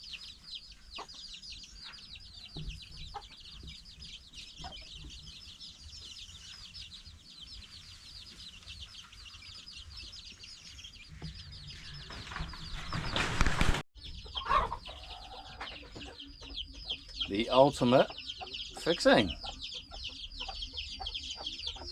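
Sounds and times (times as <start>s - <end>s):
chickens peeping and clucking: 0.0s - 21.9s.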